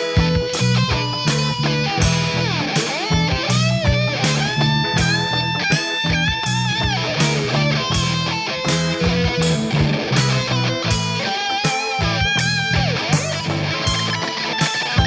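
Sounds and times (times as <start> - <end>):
rock music with electric guitar: 0.0 - 15.0.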